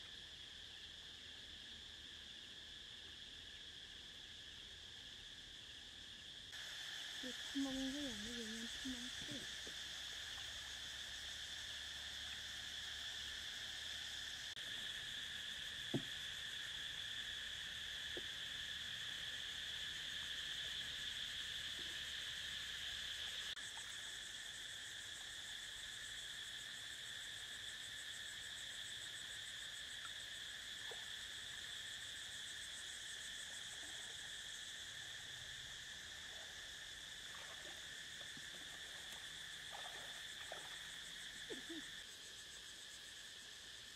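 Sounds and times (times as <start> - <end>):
insect chorus: 0.0 - 43.9.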